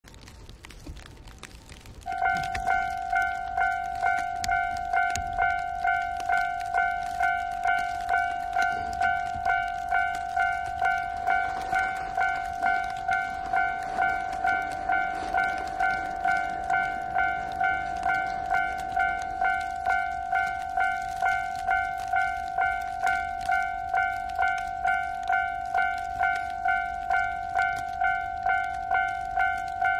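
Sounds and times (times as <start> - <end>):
level crossing warning bell: 2.1 - 29.9.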